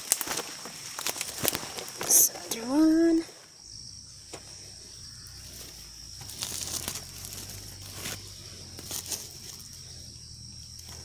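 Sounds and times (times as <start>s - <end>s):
crinkling rustles: 0.0s - 3.5s, 4.3s - 11.0s
high-pitched insect drone: 1.4s - 11.0s.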